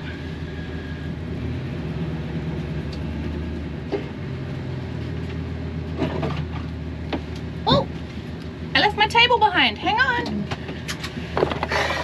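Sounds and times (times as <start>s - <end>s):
van engine humming: 0.0s - 12.0s.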